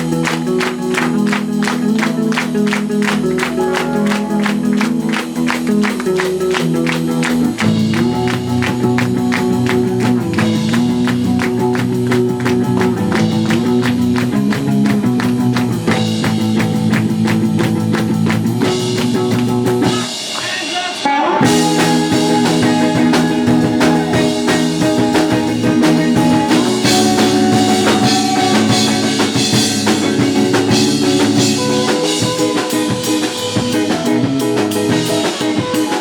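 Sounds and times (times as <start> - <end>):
guitar chords: 0.0 - 20.2, 21.4 - 36.0
fast drum beat: 0.0 - 36.0.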